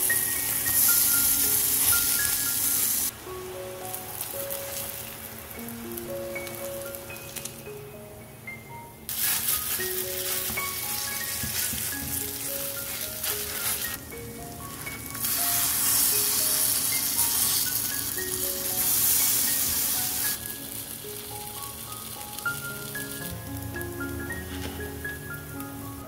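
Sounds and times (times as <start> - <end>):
batter sizzling in oil: 0.0 - 7.6, 9.1 - 26.0.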